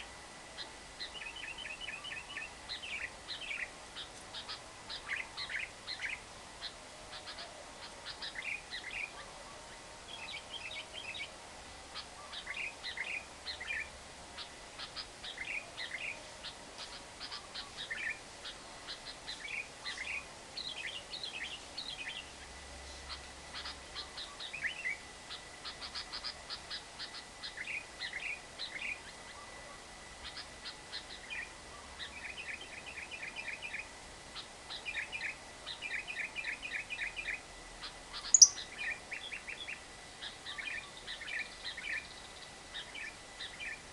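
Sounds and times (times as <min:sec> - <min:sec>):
background hiss: 0:00.0 - 0:43.9
lovebird chattering: 0:00.6 - 0:09.2, 0:11.9 - 0:22.3, 0:23.1 - 0:29.1, 0:30.2 - 0:43.8.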